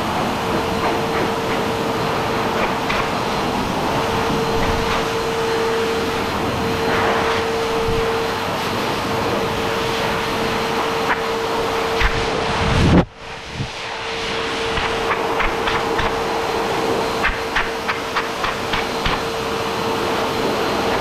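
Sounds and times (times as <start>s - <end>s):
dog grooming dryer blowing air: 0.0s - 21.0s.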